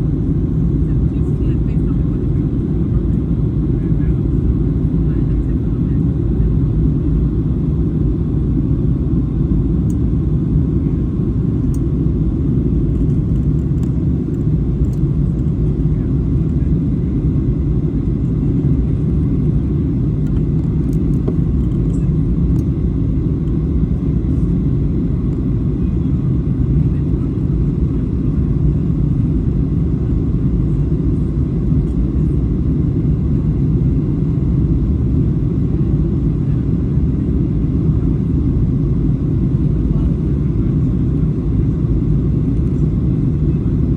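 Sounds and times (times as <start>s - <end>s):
jet engine rumble in cabin: 0.0s - 43.9s.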